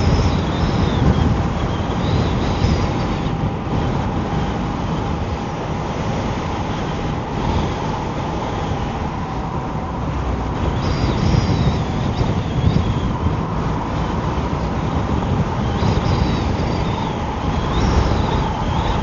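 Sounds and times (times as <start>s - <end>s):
electric scooter whine: 0.0s - 19.0s
wind buffeting microphone: 0.0s - 19.0s.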